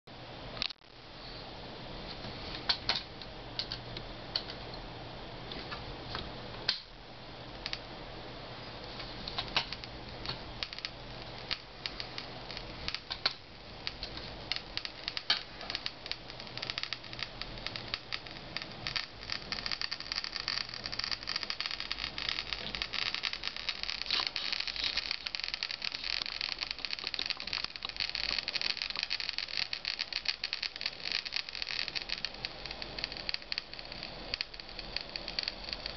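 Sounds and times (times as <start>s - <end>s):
steady hiss: 0.1s - 35.9s
radiation detector clicking: 2.6s - 4.8s, 7.6s - 7.9s, 8.8s - 35.9s.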